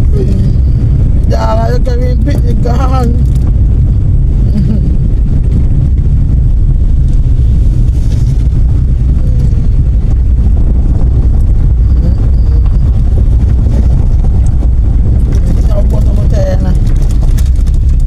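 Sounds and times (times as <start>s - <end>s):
car driving with low rumble: 0.0s - 18.0s.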